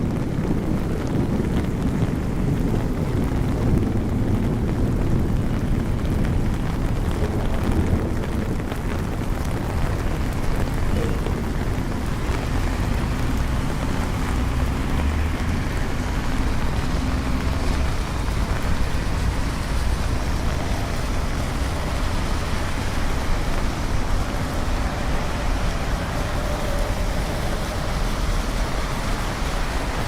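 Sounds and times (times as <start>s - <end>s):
city traffic rumble: 0.0s - 30.0s
steady rain falling: 0.0s - 30.0s.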